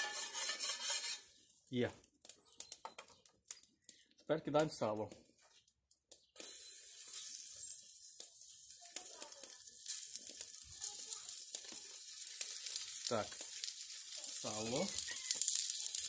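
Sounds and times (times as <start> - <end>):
pork fat sizzling in a cauldron: 0.0 - 4.1, 4.7 - 16.0.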